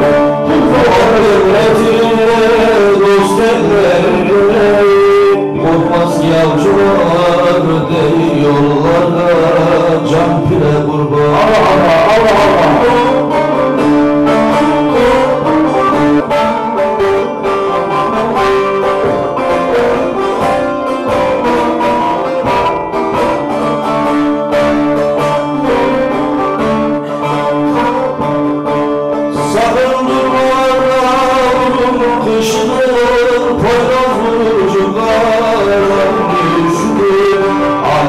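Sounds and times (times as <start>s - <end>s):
person singing: 0.0s - 38.0s
plucked lute notes over drone: 0.0s - 38.0s.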